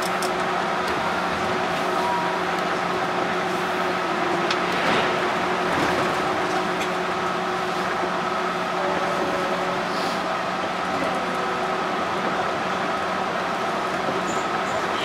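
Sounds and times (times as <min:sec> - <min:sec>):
train drive humming tones: 0:00.0 - 0:15.0
train running rumble: 0:00.0 - 0:15.0.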